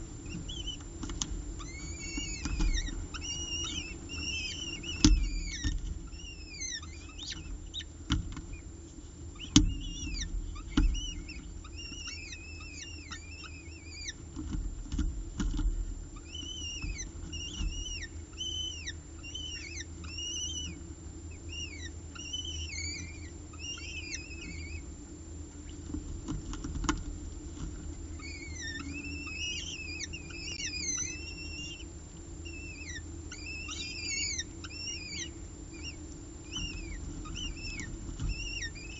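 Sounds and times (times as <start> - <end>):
falcon chicks cheeping: 0.0 - 38.9
steady low hum: 0.0 - 38.9.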